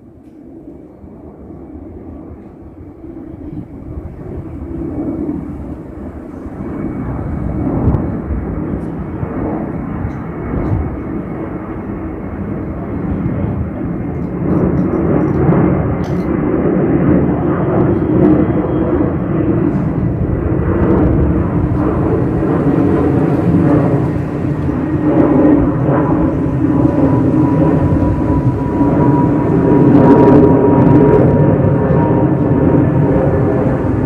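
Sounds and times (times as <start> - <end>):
jet airliner engines rumbling: 0.0 - 34.0.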